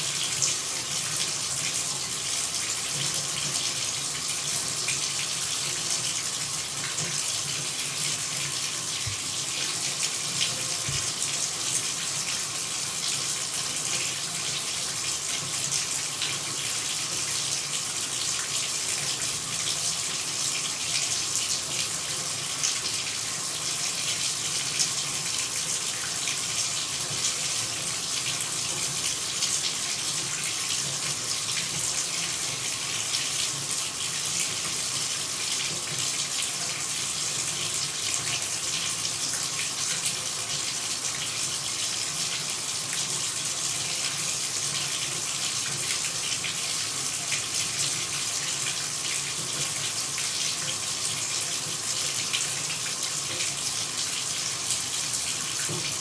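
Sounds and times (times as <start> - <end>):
water running in a stream: 0.0 - 56.0.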